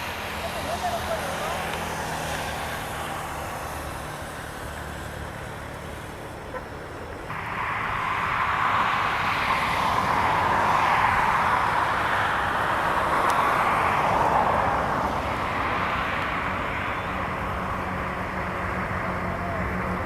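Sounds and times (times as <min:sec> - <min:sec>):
jet airliner passing: 0:00.0 - 0:20.0.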